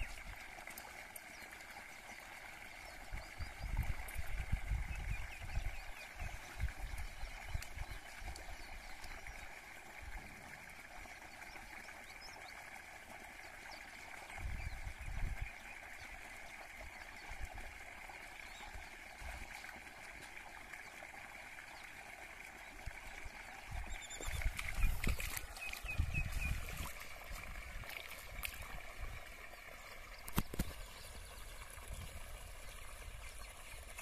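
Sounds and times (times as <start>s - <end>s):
water pouring from a pipe: 0.0s - 34.0s.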